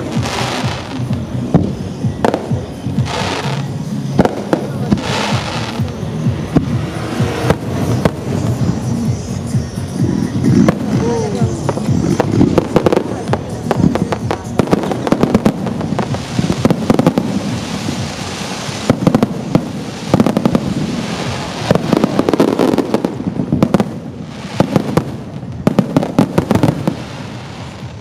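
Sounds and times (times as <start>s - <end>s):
crackling hiss: 0.0s - 28.0s
fireworks bursting: 0.0s - 28.0s.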